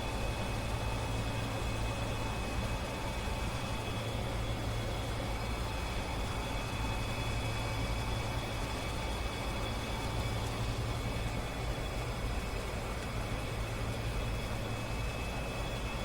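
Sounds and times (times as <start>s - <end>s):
airflow and engine noise: 0.0s - 16.0s.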